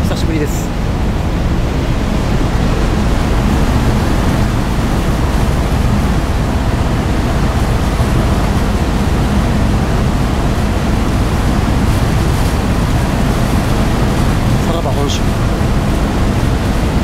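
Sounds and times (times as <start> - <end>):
churning wake: 0.0 - 17.0
ferry engines rumbling: 0.0 - 17.0.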